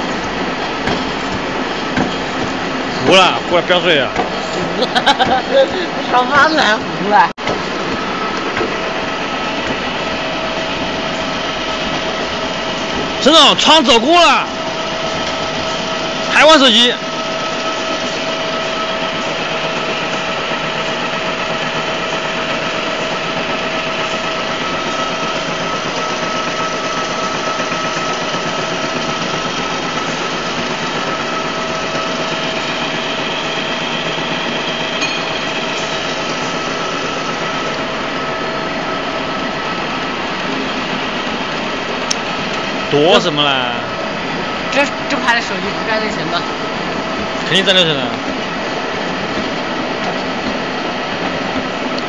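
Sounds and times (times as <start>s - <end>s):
machinery hum and whine: 0.0s - 52.0s.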